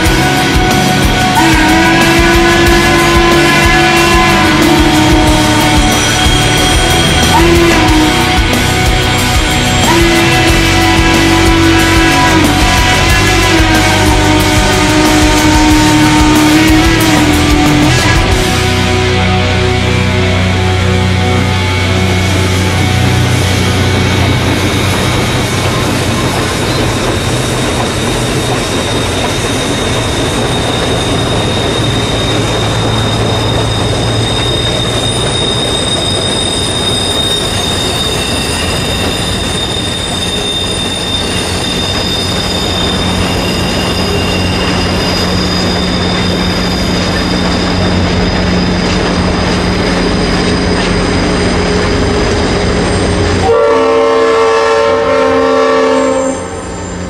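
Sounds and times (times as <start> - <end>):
locomotive horn blowing: 0.0 - 57.0
rumble from rails: 0.0 - 57.0
train wheels squealing: 2.0 - 13.1, 13.7 - 57.0.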